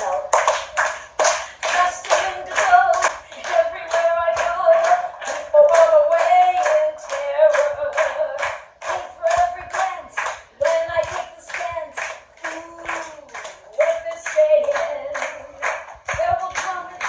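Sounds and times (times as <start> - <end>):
audience clapping along: 0.0 - 17.0
woman singing: 0.0 - 17.0.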